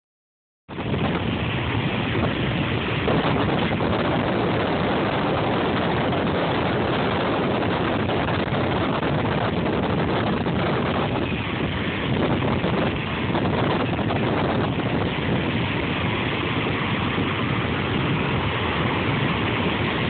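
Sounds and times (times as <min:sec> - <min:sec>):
wind blowing over microphone: 0:00.7 - 0:20.0.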